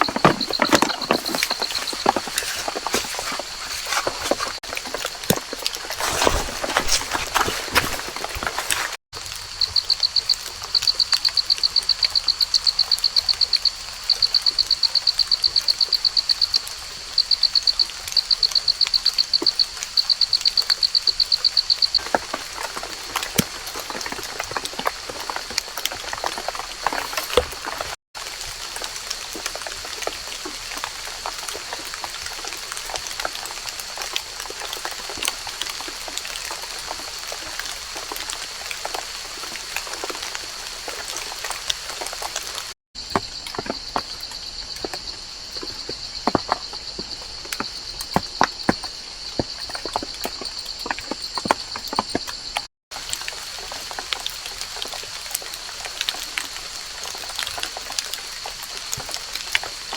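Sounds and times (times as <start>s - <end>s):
raindrops pattering on leaves: 0.0s - 59.9s.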